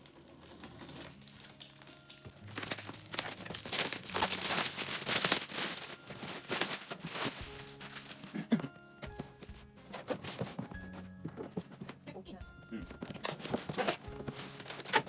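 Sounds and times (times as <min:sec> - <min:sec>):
packaging crinkling and rustling: 0:00.0 - 0:08.6, 0:09.2 - 0:12.0, 0:13.0 - 0:15.0.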